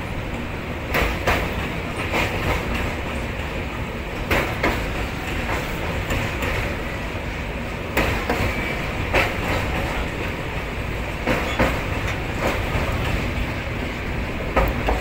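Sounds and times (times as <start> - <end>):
train rumble: 0.0 - 15.0
wheels clicking over rail joints: 0.3 - 15.0.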